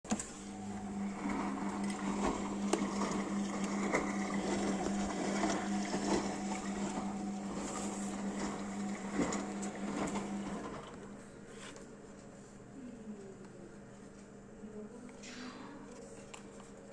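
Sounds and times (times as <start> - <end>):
washing machine humming: 0.0 - 16.9.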